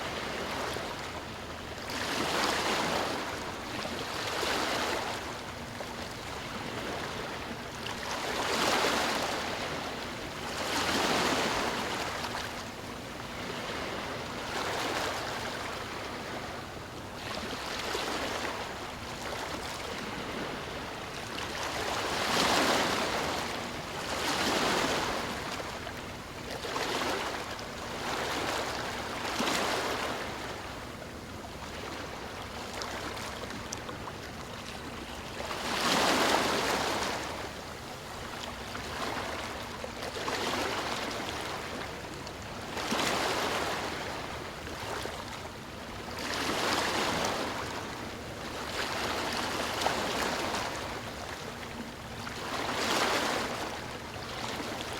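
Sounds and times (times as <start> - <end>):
ocean waves breaking on shore: 0.0 - 54.9.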